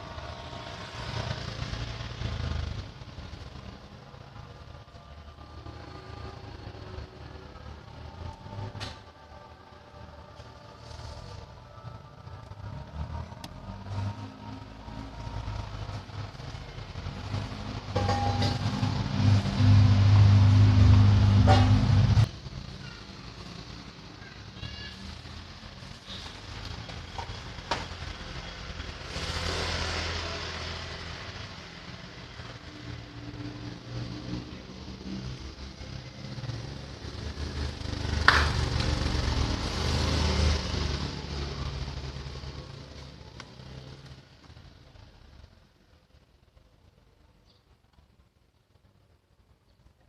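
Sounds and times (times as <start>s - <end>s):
diesel engine humming: 0.0s - 45.7s.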